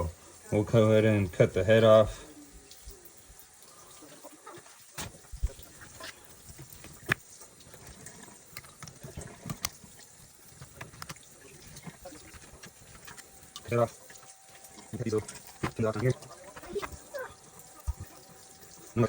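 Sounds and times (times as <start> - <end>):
wet handling sounds: 2.7 - 19.0.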